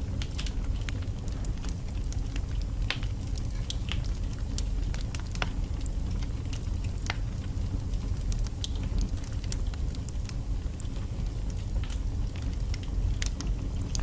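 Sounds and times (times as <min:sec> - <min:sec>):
fire low rumble: 0:00.0 - 0:14.0
logs crackling and popping: 0:00.0 - 0:14.0.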